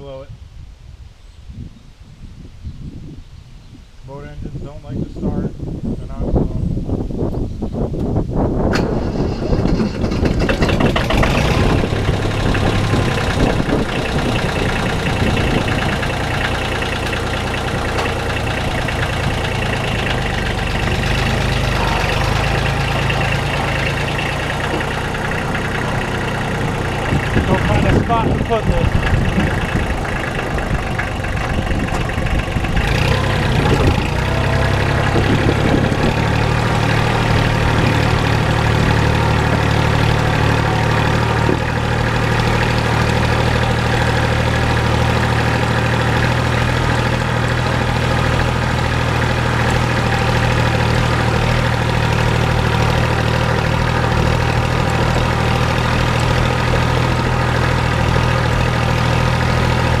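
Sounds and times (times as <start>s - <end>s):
tractor diesel engine running: 6.9s - 60.0s.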